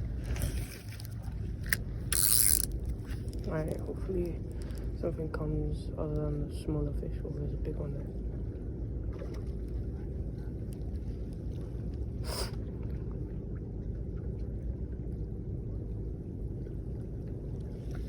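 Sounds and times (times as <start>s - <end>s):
wind and water rumble: 0.0s - 18.0s.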